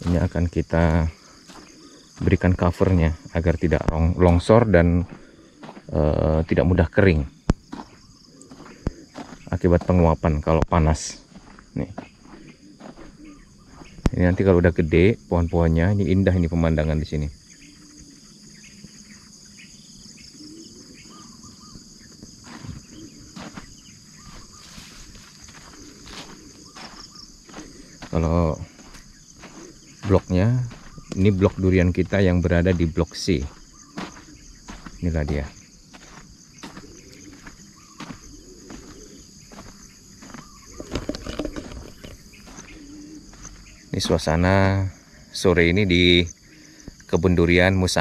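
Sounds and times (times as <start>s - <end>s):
crickets chirping: 0.0s - 48.0s
insects trilling: 0.0s - 48.0s.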